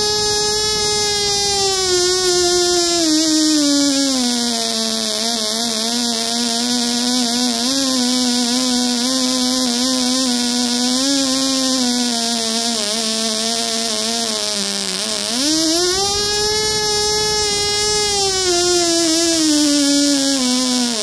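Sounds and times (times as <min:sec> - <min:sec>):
miniature engine high-pitched buzz: 0:00.0 - 0:21.0.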